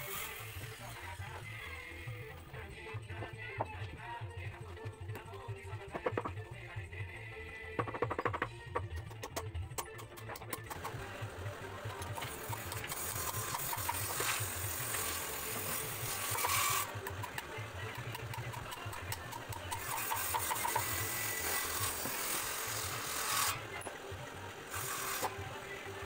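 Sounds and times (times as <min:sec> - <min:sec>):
background music beat: 0:00.1 - 0:23.1.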